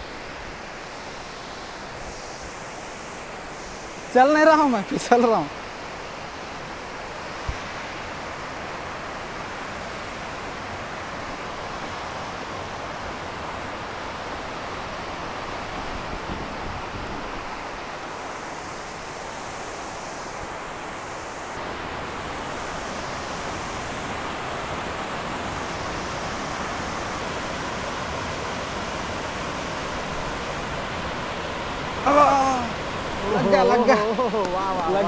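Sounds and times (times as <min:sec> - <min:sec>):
water rushing down a spillway: 0:00.0 - 0:35.0.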